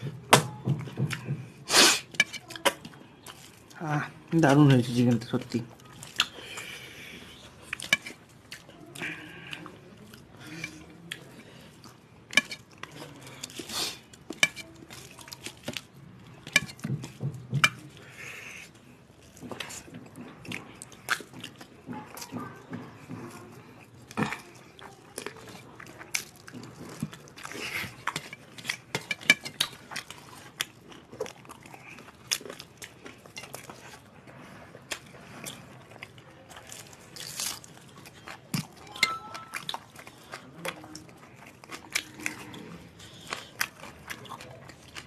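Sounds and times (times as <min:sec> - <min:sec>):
chewing and lip-smacking: 0:00.0 - 0:45.0.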